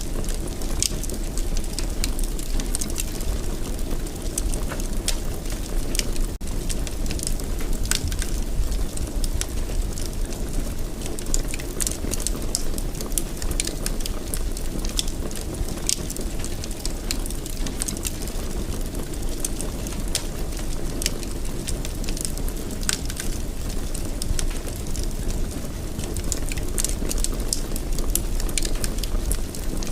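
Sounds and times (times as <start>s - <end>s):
fire low rumble: 0.0s - 29.9s
wood fire crackling: 0.0s - 29.9s.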